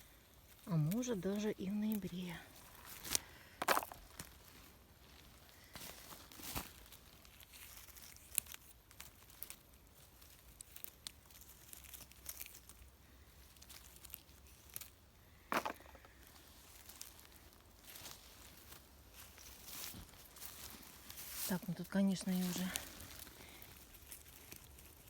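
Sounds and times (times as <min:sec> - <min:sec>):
rustling of forest-floor plants: 0:00.0 - 0:25.0
long crunch: 0:02.4 - 0:25.0.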